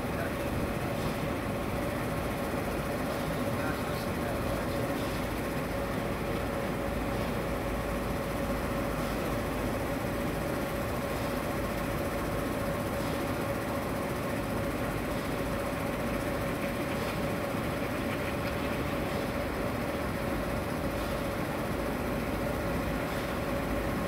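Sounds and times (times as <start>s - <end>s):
aerator motor humming: 0.0s - 24.0s.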